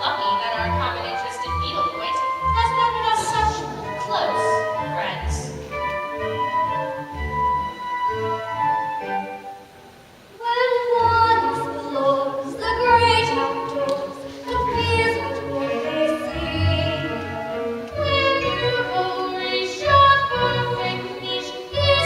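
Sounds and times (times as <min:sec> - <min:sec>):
instrumental accompaniment: 0:00.0 - 0:22.0.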